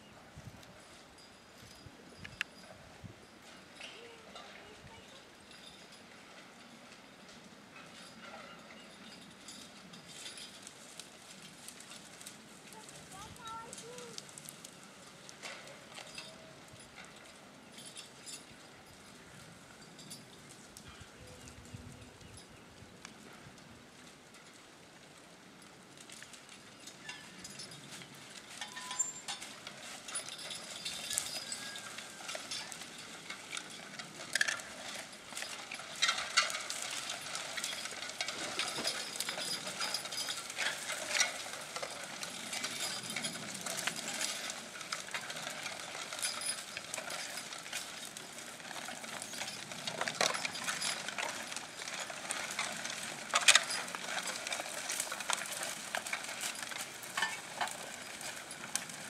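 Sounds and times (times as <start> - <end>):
disc harrow breaking soil: 7.8 - 22.4, 23.0 - 59.0.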